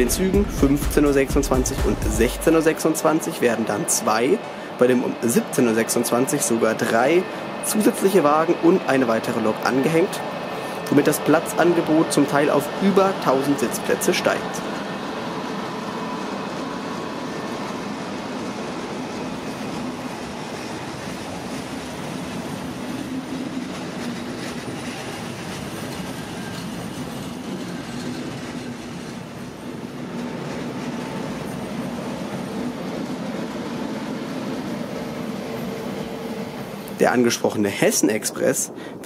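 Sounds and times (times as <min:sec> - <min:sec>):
electric locomotive passing: 0:00.0 - 0:39.0
train wheels on rails: 0:00.0 - 0:39.0.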